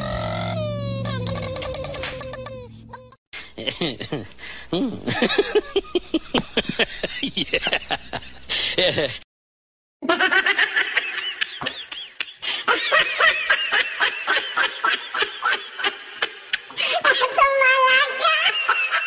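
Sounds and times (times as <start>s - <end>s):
high-pitched laughter: 0.2s - 9.2s, 10.0s - 19.0s.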